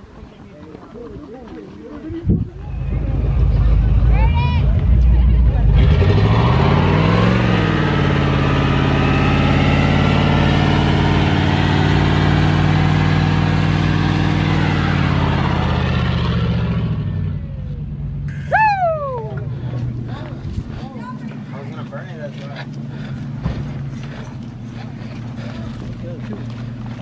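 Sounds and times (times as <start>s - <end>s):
tire spinning on pavement: 0.0s - 27.0s
truck engine revving: 2.6s - 27.0s.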